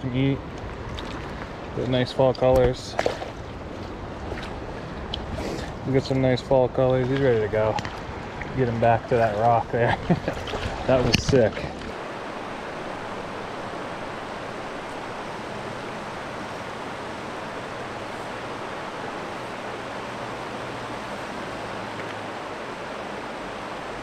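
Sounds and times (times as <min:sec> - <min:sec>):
river water rushing over rocks: 0:02.5 - 0:24.0.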